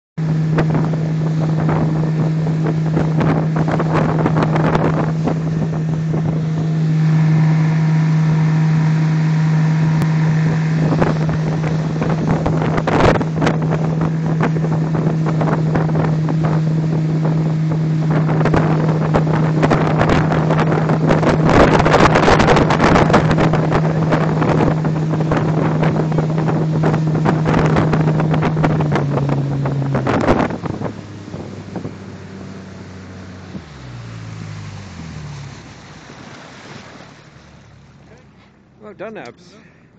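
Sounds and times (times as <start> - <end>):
wind buffeting microphone: 0.2 - 36.3
rushing water: 0.2 - 39.3
outboard motor running: 0.2 - 39.9.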